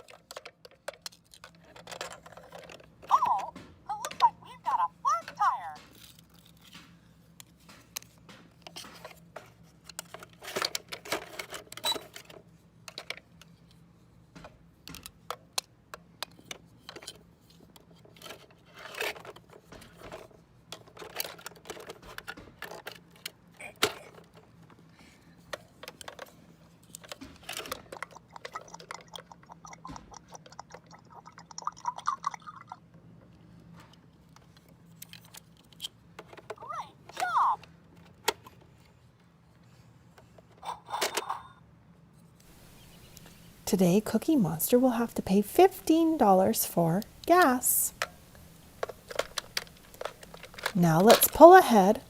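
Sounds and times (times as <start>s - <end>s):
plastic toys clicking and tapping: 0.0s - 13.8s, 14.4s - 32.3s, 33.9s - 38.7s, 42.6s - 52.0s.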